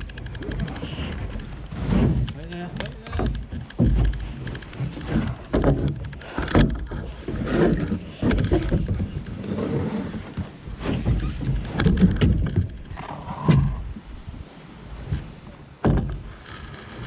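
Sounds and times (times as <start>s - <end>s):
paddle knocks: 0.1s - 17.0s
paddle splashing in water: 0.1s - 17.0s.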